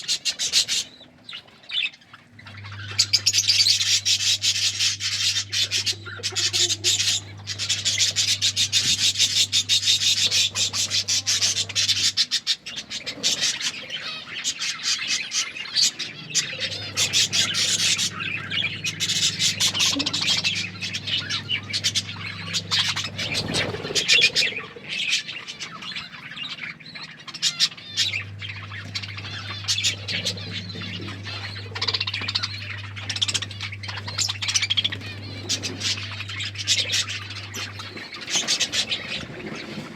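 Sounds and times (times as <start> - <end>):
budgies chattering and chirping: 0.0 - 39.9
low steady hum: 0.0 - 39.9.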